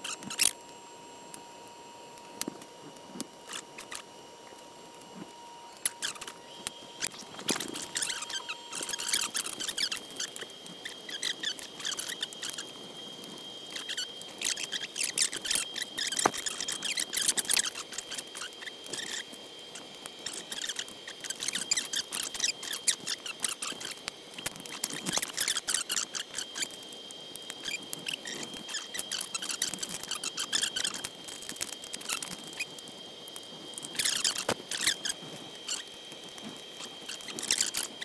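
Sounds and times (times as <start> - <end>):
faint high whine: 0.0 - 38.0.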